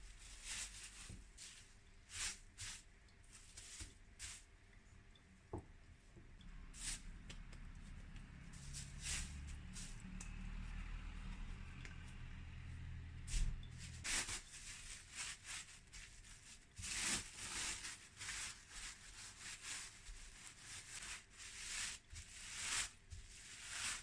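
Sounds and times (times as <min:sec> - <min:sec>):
rustling and rubbing: 0:00.0 - 0:04.5, 0:06.7 - 0:12.2, 0:13.1 - 0:24.0.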